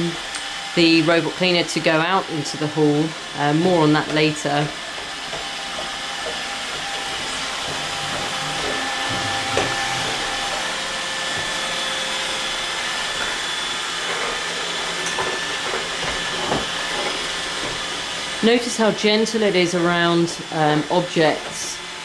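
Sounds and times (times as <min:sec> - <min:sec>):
robot vacuum whirring: 0:00.1 - 0:22.0.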